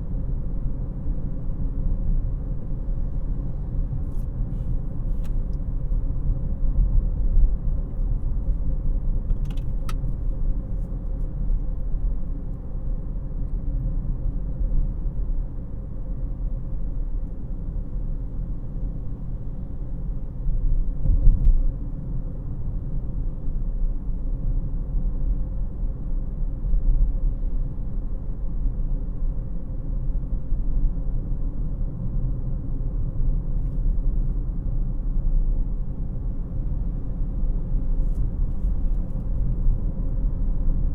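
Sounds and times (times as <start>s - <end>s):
engine and tyre rumble: 0.0s - 40.9s.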